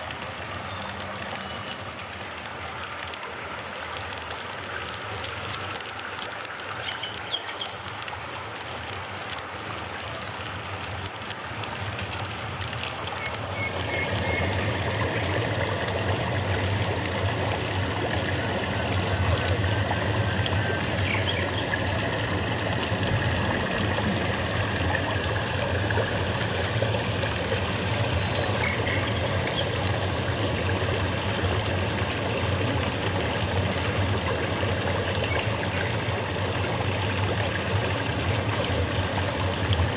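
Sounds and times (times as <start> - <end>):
moving water: 0.0 - 39.9.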